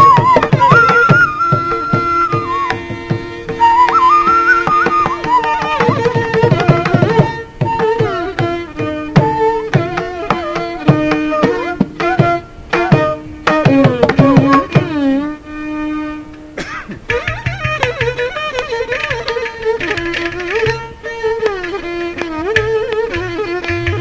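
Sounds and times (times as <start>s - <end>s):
hand drum rhythm: 0.0s - 15.0s, 16.9s - 24.0s
bamboo flute: 0.0s - 16.4s, 17.1s - 24.0s
violin gliding phrases: 0.0s - 24.0s.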